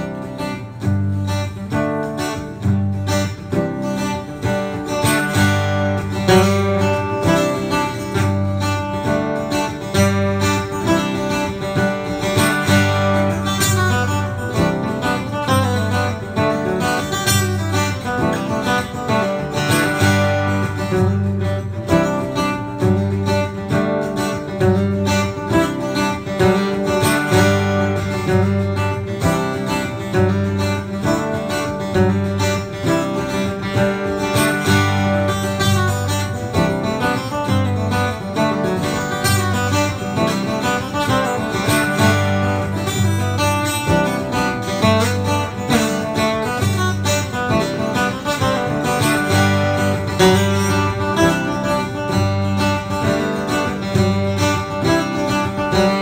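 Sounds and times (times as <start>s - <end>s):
acoustic guitar music: 0.0s - 56.0s.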